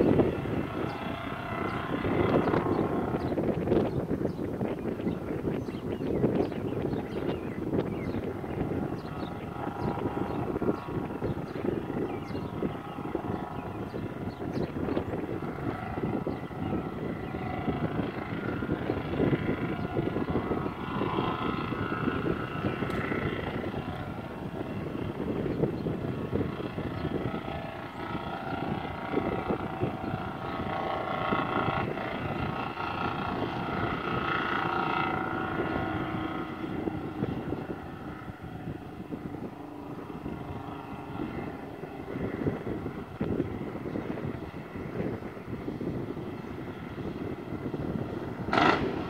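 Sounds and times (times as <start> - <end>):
diesel truck engine droning: 0.0 - 49.0
engine whine: 0.0 - 49.0.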